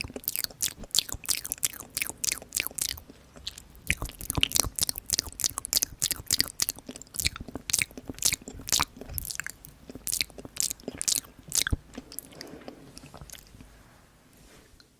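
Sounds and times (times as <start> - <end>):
soft mouth sounds: 0.0 - 13.8.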